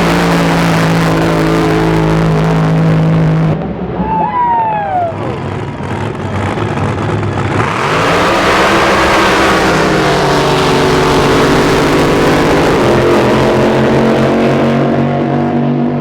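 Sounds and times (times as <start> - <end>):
drag boat engine at full throttle: 0.0 - 16.0.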